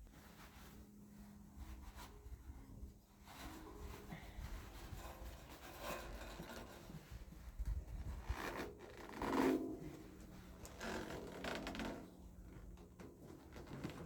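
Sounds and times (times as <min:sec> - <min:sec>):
faint rubbing and scraping: 0:00.0 - 0:14.0.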